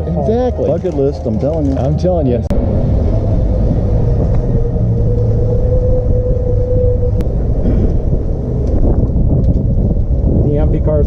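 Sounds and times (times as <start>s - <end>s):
steady whine: 0.0s - 11.0s
vehicle engine low rumble: 0.0s - 11.0s.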